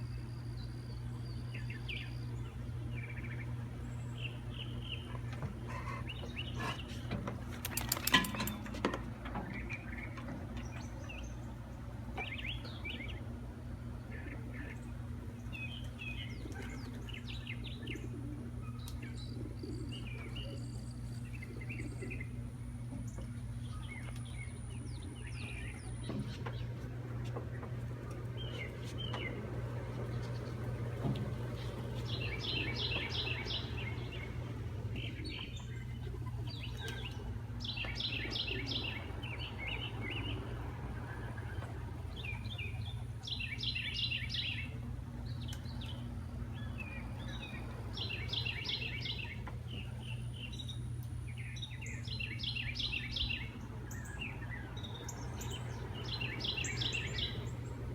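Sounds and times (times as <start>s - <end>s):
small birds chirping: 0.0s - 57.9s
steady low hum: 0.0s - 57.9s.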